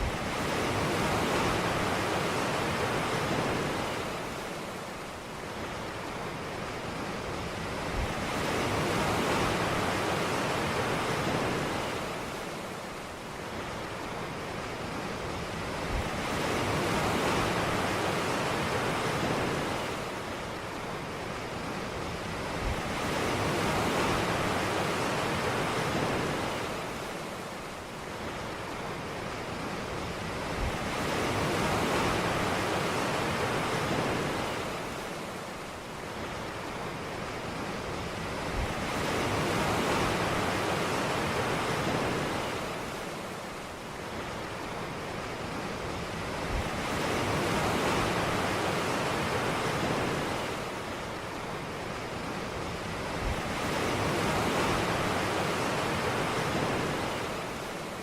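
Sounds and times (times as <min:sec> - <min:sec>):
waves breaking on beach: 0:00.0 - 0:58.0.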